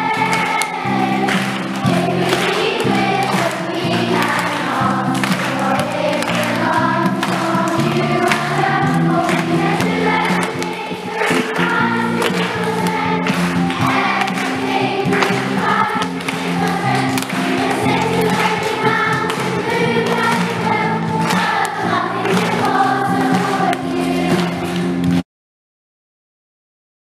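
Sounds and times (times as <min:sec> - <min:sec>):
group singing worship song: 0:00.0 - 0:24.8
music: 0:00.0 - 0:25.2
people clapping along: 0:00.0 - 0:25.2.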